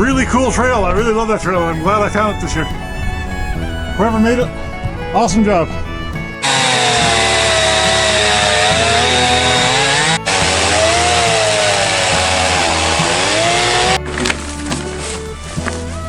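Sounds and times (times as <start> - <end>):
music: 0.0 - 16.0
chainsaw cutting through wood: 2.2 - 16.0.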